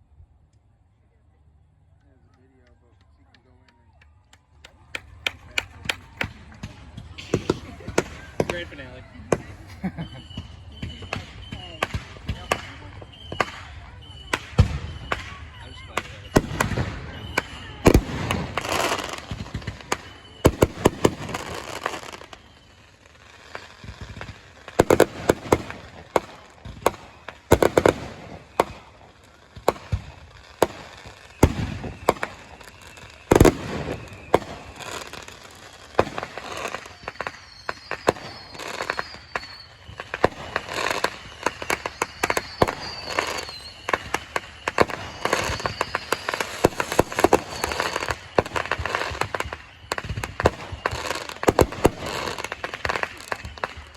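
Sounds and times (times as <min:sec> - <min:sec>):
whistling firework shells: 0:02.0 - 0:53.9
fireworks crackling: 0:02.2 - 0:53.9
fireworks bangs: 0:04.7 - 0:53.9.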